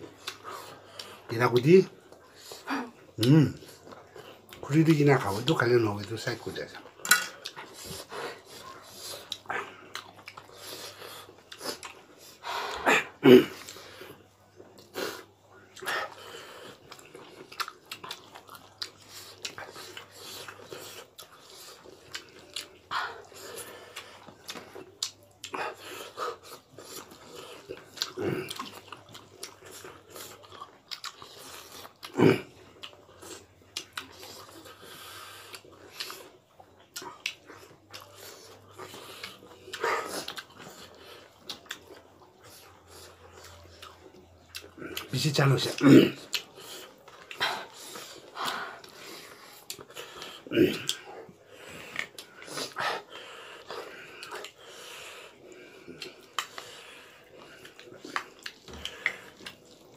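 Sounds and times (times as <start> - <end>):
wet chewing and smacking: 0.0 - 59.9.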